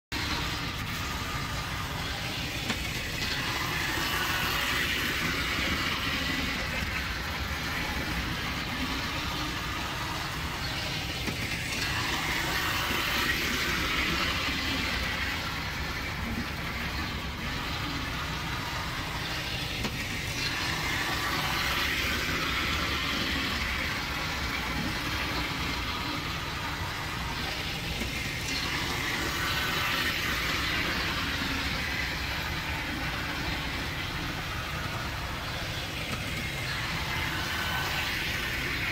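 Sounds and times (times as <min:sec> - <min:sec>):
wheels rattling on metal rails: 0:00.1 - 0:38.9
toy train motor whirring: 0:00.2 - 0:38.9.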